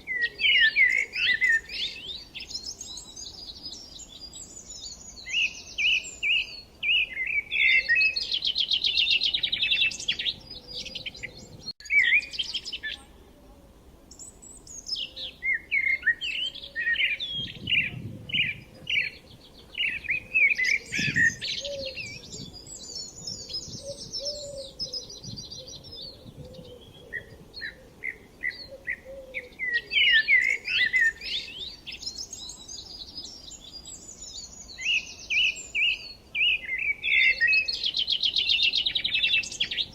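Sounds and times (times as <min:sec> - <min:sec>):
small birds chirping: 0:00.0 - 0:13.3, 0:14.1 - 0:39.9.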